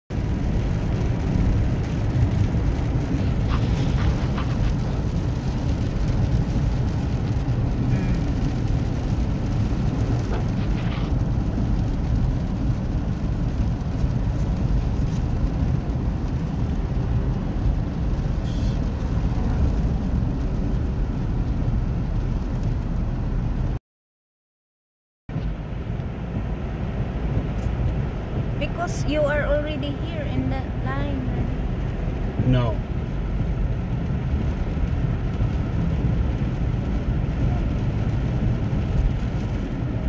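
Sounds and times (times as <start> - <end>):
car driving on wet road: 0.1 - 23.8, 25.3 - 40.0.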